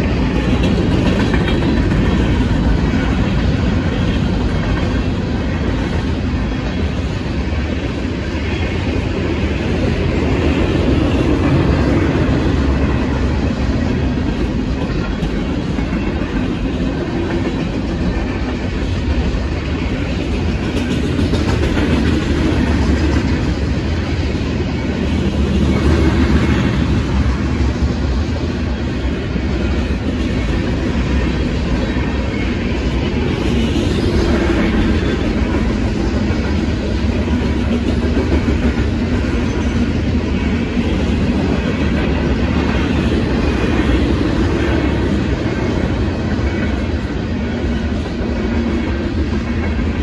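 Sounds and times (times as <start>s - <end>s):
freight train wheels rumbling on rail: 0.0s - 50.0s.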